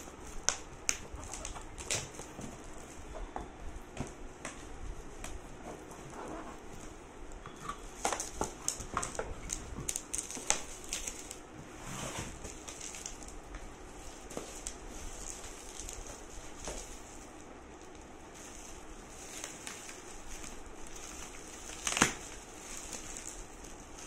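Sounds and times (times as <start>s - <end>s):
cardboard and bubble wrap rustling: 0.0s - 24.0s.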